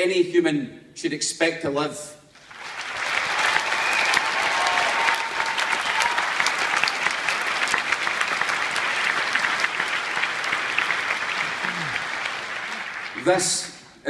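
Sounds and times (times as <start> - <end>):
audience applauding: 2.4 - 13.7.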